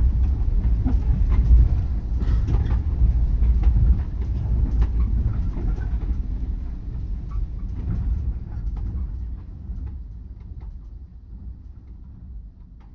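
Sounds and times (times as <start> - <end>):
low steady rumble: 0.0 - 12.9.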